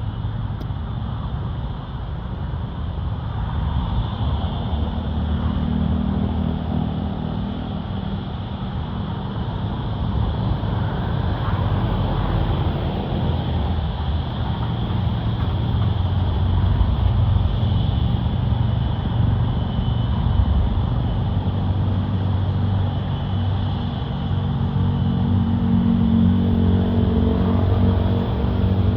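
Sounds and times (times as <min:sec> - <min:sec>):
airliner engines rumbling: 0:00.0 - 0:28.9.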